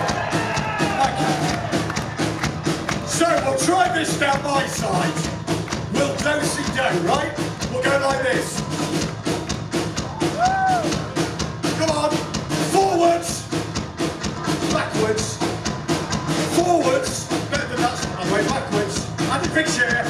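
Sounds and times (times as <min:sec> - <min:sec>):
thrash metal band playing: 0:00.0 - 0:20.0.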